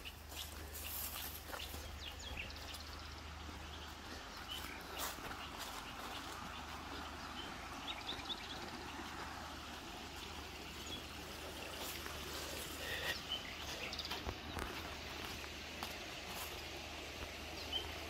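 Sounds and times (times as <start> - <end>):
birds chirping: 0.0 - 18.0
steady outdoor hiss: 0.0 - 18.0.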